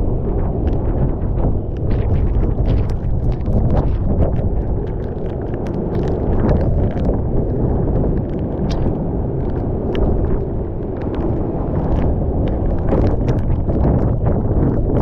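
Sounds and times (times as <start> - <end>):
wind buffeting microphone: 0.0 - 15.0
rain ticking on camera: 0.1 - 15.0.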